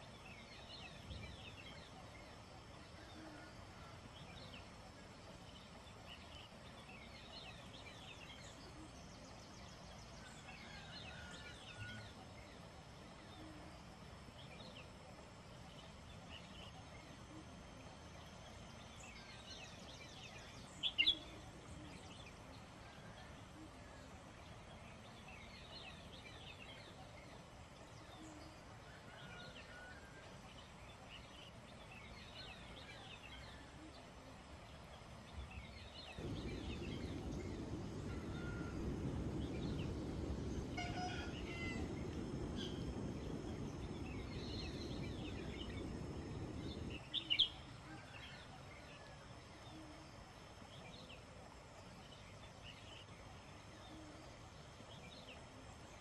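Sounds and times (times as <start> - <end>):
birds chirping: 0.0 - 56.0
faint steady hiss: 0.0 - 56.0.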